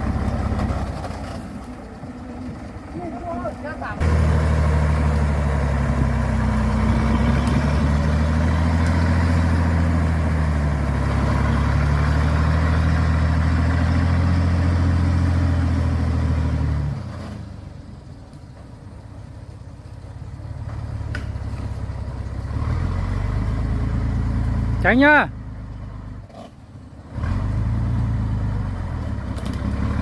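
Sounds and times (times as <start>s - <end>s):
truck engine running under load: 0.0s - 30.0s.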